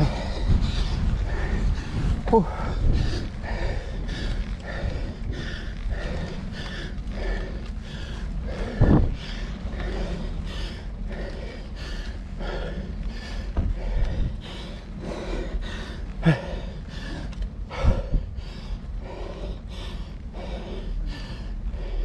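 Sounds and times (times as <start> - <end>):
heavy fast breathing: 0.0 - 22.0
wind rumble on microphone: 0.0 - 22.0.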